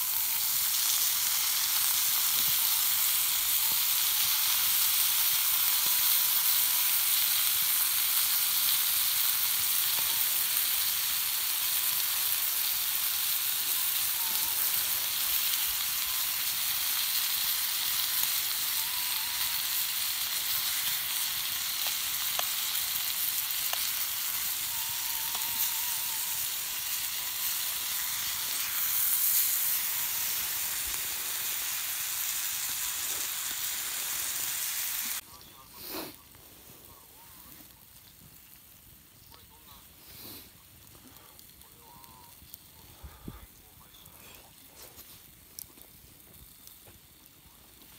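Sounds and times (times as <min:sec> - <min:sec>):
thin squeals from cooking juices: 0:00.0 - 0:38.5
food sizzling in a pan: 0:00.0 - 0:43.3.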